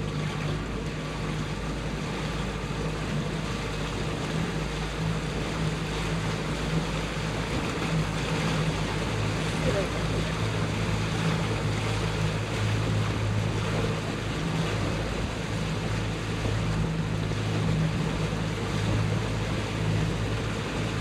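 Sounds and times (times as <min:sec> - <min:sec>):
boat motor running: 0:00.0 - 0:21.0
wind and water rushing: 0:00.0 - 0:21.0.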